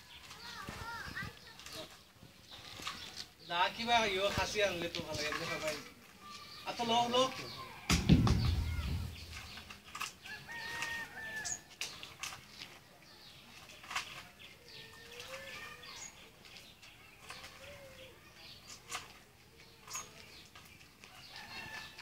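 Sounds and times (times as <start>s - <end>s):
birds calling: 0.0s - 22.0s
rustles: 0.0s - 22.0s.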